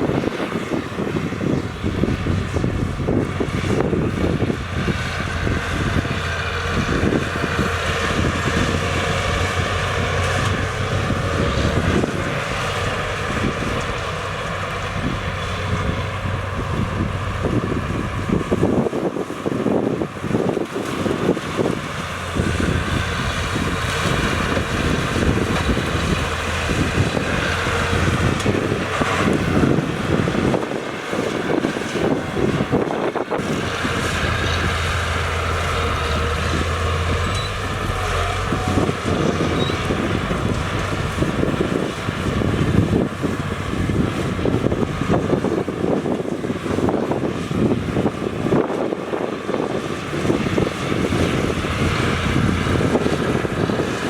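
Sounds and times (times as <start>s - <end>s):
diesel machinery engine drone: 0.0s - 54.0s
wind on microphone: 0.0s - 54.0s.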